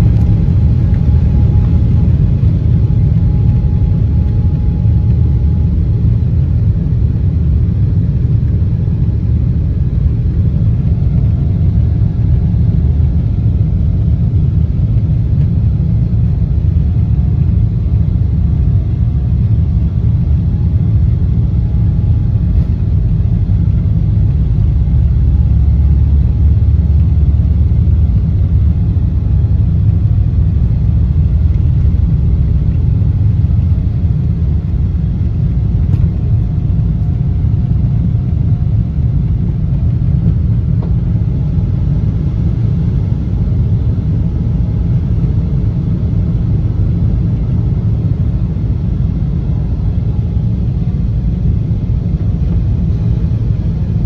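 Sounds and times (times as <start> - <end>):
jet engines deep rumble: 0.0 - 54.0.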